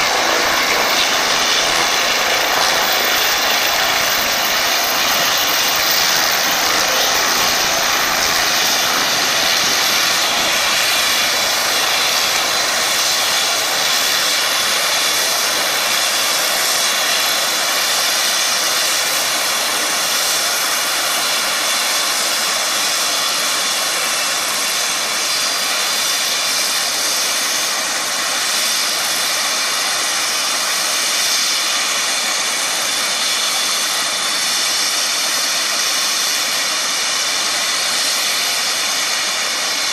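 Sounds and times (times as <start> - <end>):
helicopter turbine whine: 0.0 - 39.9.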